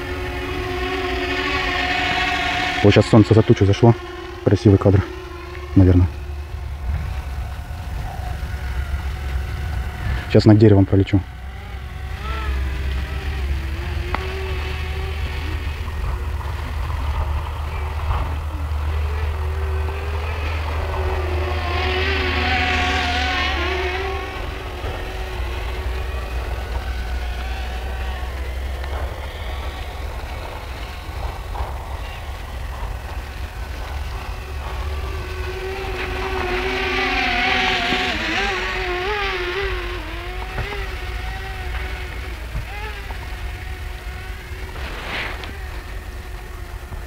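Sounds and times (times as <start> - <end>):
drone propellers whining: 0.0 - 47.0
wind rumble on microphone: 0.0 - 47.0.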